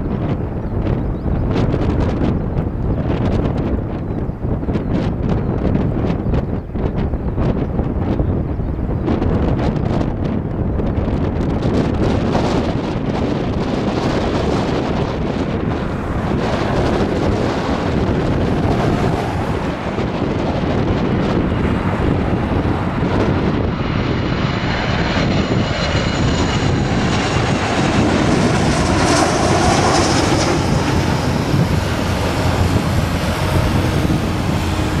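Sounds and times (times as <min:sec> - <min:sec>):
high fan whine: 0:00.0 - 0:35.0
jet engine rush: 0:00.0 - 0:35.0.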